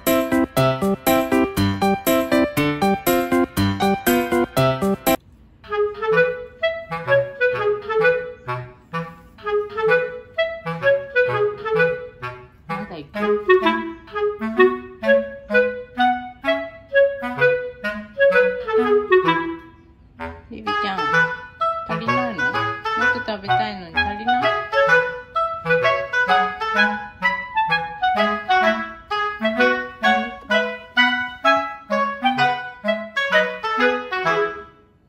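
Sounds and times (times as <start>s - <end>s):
quick melody with bass line: 0.0s - 34.8s.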